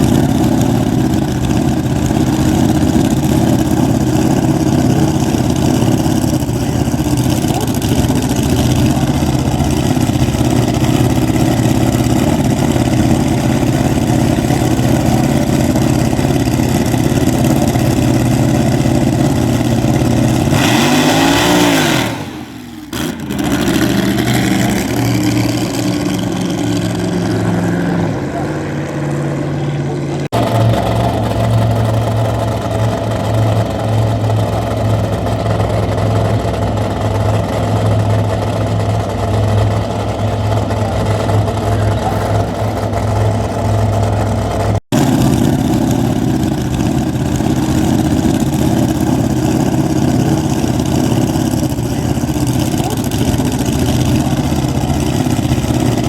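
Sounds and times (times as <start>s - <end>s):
race car engine idling and revving: 0.0s - 56.0s.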